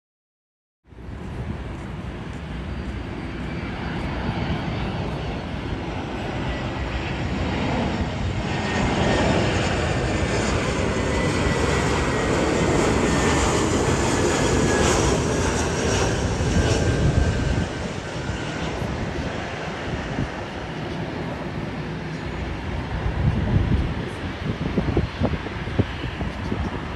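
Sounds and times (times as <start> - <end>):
jet engine rush: 1.0 - 26.9.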